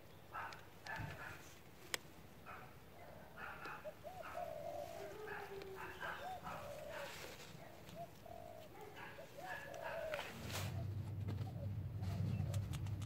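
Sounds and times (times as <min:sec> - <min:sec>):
dove cooing: 0:02.5 - 0:13.0.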